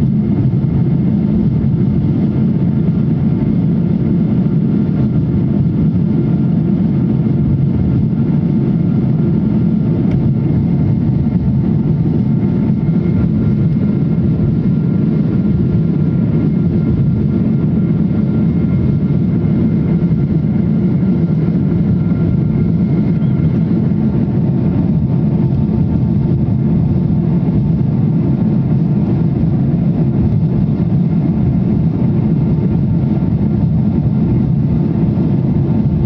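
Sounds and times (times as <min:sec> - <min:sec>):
airliner cabin engine rumble: 0:00.0 - 0:36.0
faint steady whine: 0:00.0 - 0:36.0.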